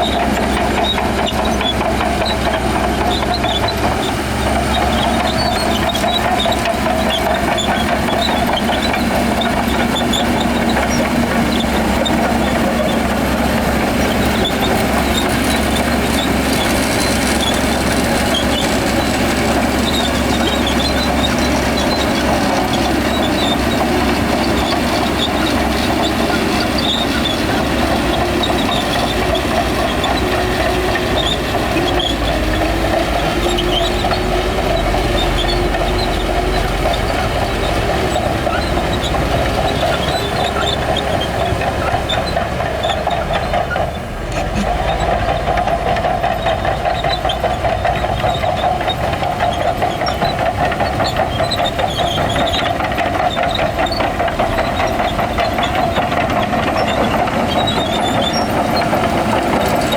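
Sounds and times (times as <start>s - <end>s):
bulldozer diesel engine: 0.0s - 59.9s
tracks clanking: 0.0s - 59.9s.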